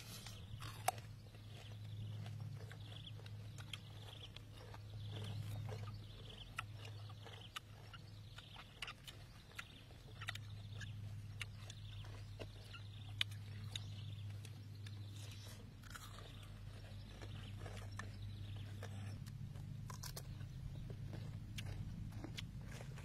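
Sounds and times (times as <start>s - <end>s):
steady low hum: 0.0s - 23.0s
chewing clicks and crunches: 0.1s - 23.0s.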